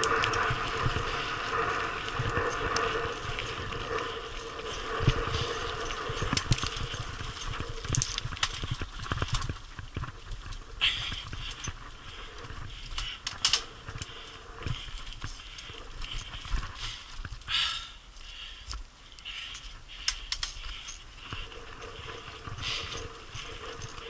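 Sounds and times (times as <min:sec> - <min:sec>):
bike rattling: 0:00.0 - 0:24.0.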